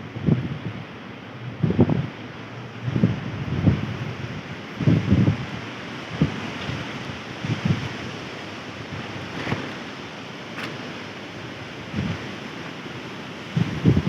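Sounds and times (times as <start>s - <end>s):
strong wind rushing: 0.0s - 14.0s
wind buffeting microphone: 0.0s - 14.0s.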